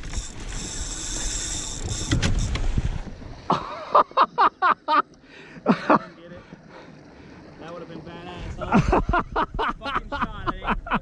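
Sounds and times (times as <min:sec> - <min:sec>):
high hiss of water and reel: 0:00.0 - 0:09.0.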